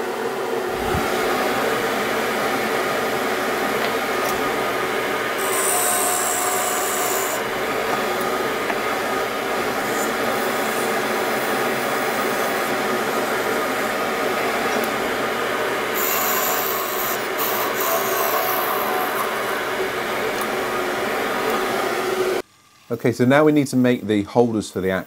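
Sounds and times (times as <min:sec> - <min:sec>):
woodturning lathe running: 0:00.0 - 0:22.4.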